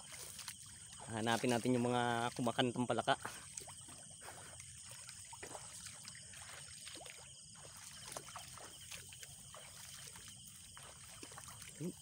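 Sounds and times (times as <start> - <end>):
feet wading through mud: 0.0 - 12.0.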